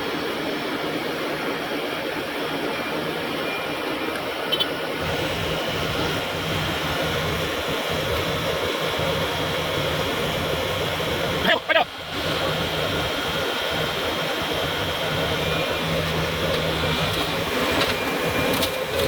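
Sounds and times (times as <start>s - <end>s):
engine humming: 3.3s - 19.0s.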